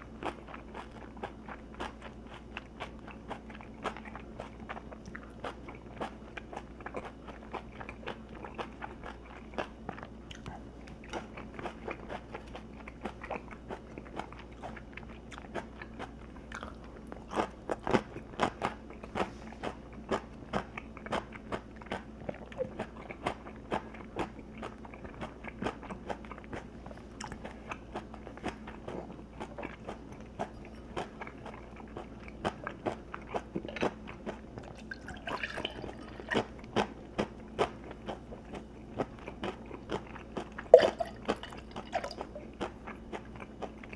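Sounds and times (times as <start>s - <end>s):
faint steady hum: 0.0s - 43.9s
person chewing crunchy food: 0.0s - 43.9s.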